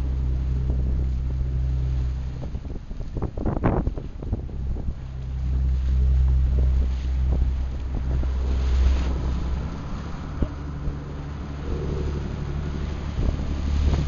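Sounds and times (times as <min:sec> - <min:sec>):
boat engine humming: 0:00.0 - 0:14.0
wind buffeting microphone: 0:00.0 - 0:14.0.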